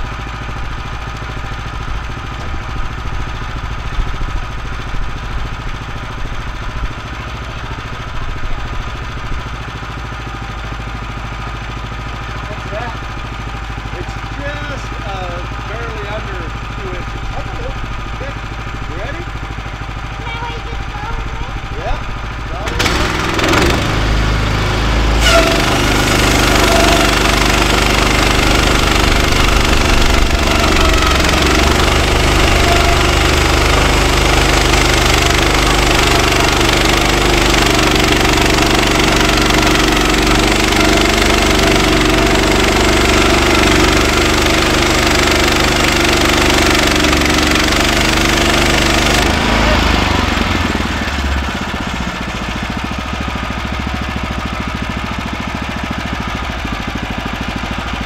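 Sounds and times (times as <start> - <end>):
gas engine running under load: 0.0 - 58.0.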